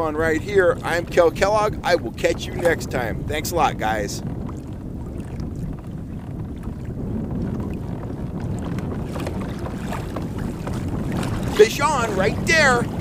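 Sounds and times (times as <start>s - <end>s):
small waves slapping hull: 0.0s - 13.0s
wind rumbling on microphone: 0.0s - 13.0s.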